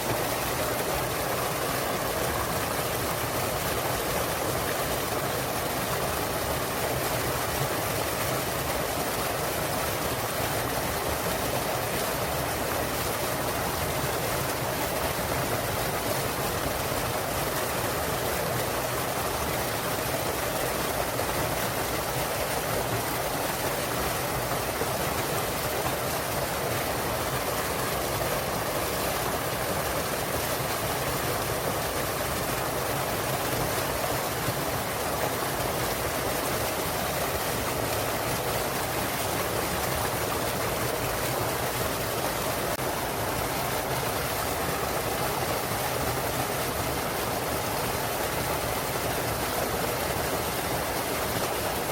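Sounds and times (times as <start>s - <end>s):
waterfall rushing into stream: 0.0s - 51.9s.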